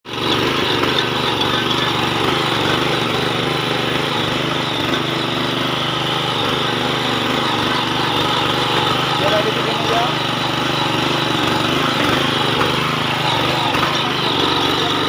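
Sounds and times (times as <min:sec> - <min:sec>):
power tiller engine running: 0:00.0 - 0:15.0.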